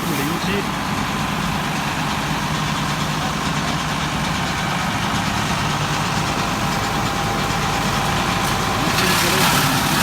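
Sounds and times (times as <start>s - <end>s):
wood chipper running: 0.0s - 10.0s.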